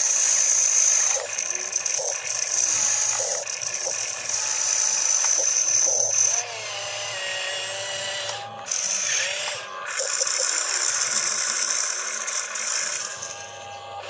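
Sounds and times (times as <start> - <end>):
electric motors whirring: 0.0 - 14.0.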